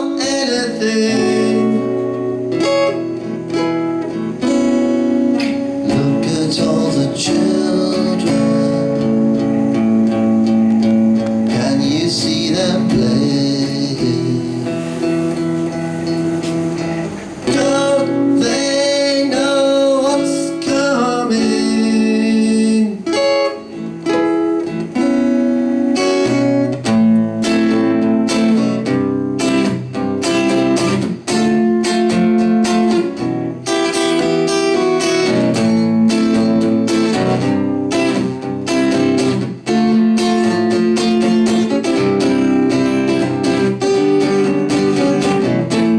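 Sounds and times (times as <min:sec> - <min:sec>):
acoustic guitar strumming: 0:00.0 - 0:45.9.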